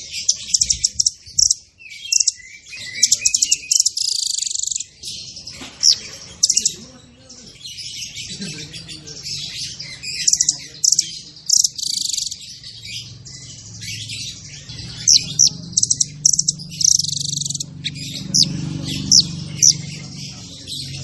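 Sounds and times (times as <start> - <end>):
songbird chirping and trilling: 0.0 - 21.0.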